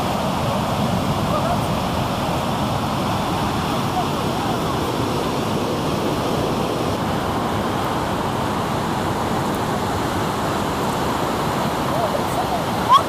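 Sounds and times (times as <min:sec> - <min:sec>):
stream tumbling over boulders: 0:00.0 - 0:13.0
waterfall rushing: 0:00.0 - 0:13.0.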